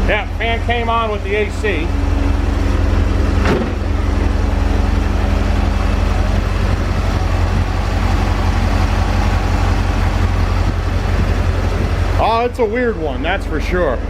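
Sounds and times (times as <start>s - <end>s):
car engine idling: 0.0s - 14.0s
radiator cooling fan running: 0.0s - 14.0s
steady hum: 0.0s - 14.0s.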